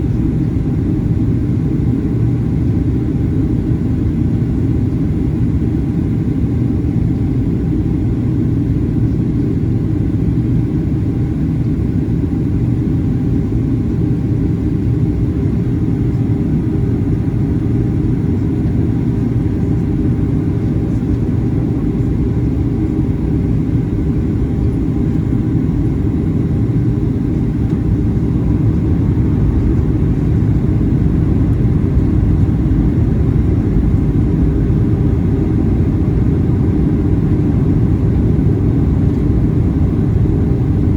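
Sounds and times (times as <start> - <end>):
aircraft cabin engine rumble: 0.0 - 40.9.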